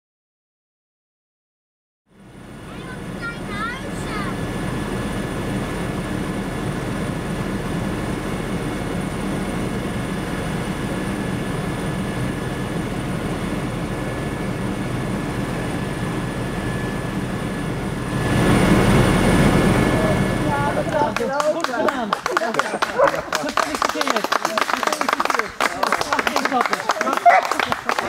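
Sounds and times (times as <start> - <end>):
light aircraft engine drone: 2.1 - 28.0.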